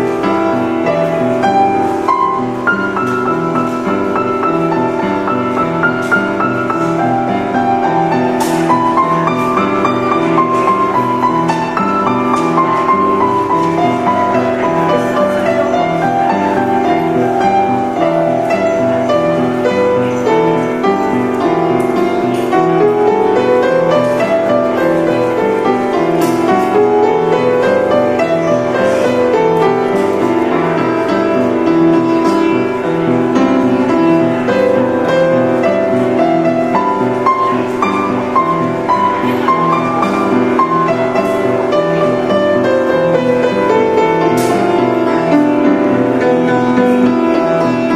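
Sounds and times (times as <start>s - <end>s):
upright piano playing: 0.0s - 47.9s.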